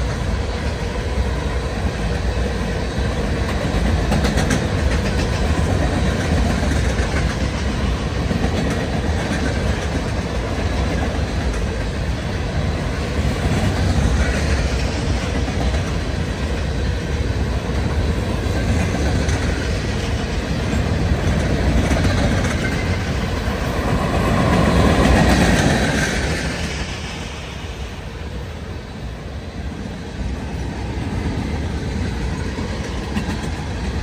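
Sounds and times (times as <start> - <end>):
freight train wheels clattering: 0.0 - 28.8, 29.6 - 34.0.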